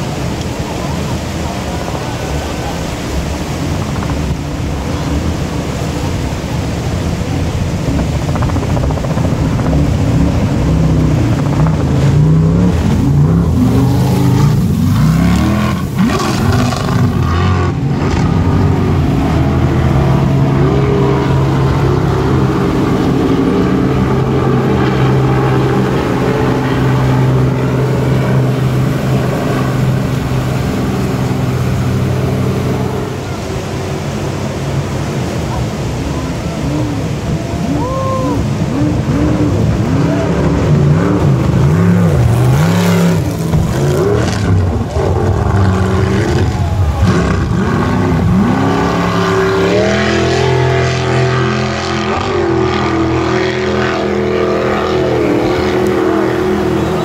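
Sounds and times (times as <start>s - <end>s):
jet boat engine running hard: 0.0s - 57.0s
river rushing: 0.0s - 57.0s.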